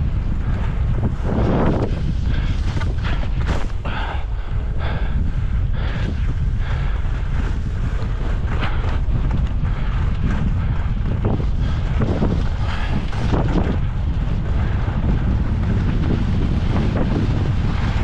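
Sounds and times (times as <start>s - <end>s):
skis scraping over snow: 0.0s - 5.1s, 5.8s - 18.0s
wind buffeting microphone: 0.0s - 18.0s.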